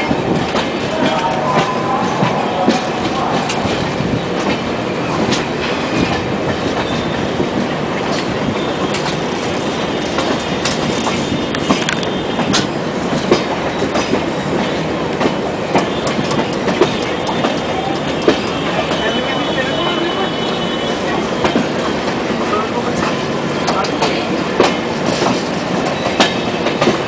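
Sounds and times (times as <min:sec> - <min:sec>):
train wheels clattering over rail joints: 0:00.0 - 0:20.1, 0:21.1 - 0:27.0.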